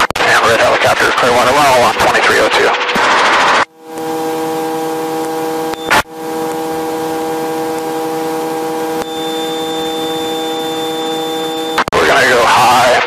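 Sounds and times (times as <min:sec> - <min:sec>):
helicopter cabin whine: 0:00.1 - 0:13.0.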